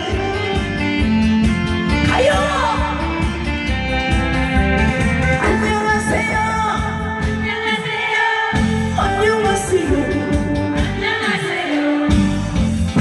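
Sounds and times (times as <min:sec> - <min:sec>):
amplified band with steady beat: 0:00.0 - 0:13.0
person singing live: 0:00.0 - 0:13.0.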